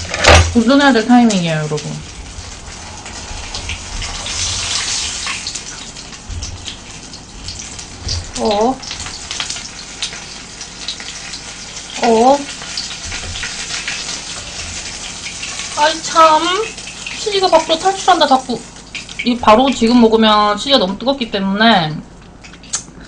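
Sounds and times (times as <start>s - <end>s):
cheese sticks sizzling in oil: 0.0s - 21.5s.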